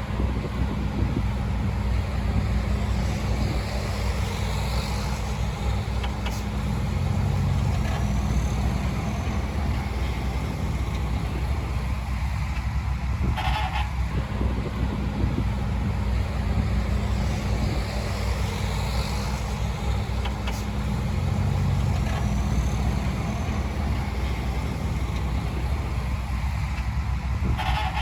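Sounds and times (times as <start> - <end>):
heavy diesel engine droning: 0.0 - 28.0.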